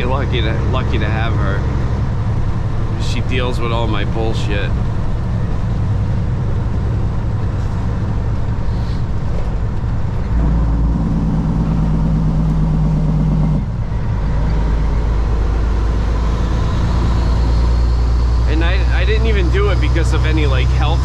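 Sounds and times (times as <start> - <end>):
road noise: 0.0 - 21.0
truck diesel engine running: 0.0 - 21.0.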